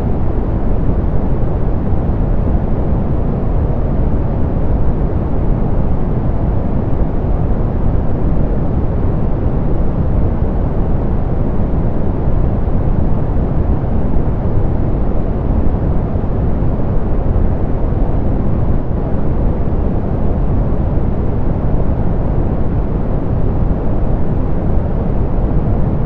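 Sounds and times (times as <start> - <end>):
deep rumbly pink noise: 0.0 - 26.0.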